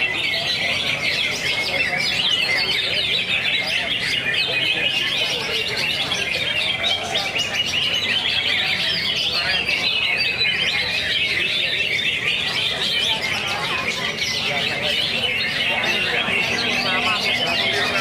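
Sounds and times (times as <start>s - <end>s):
many birds chirping and trilling: 0.0s - 18.0s.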